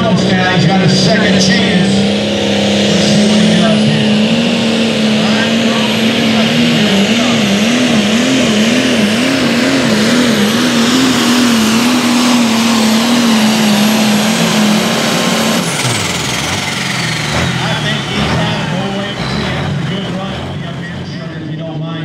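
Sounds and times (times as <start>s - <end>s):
diesel engine under load: 0.0s - 22.0s
high whine: 0.0s - 22.0s.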